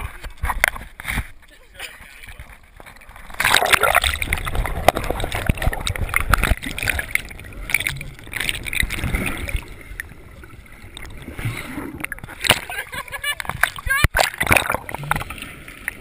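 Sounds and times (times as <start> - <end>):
river water splashing and gurgling: 0.0 - 16.0.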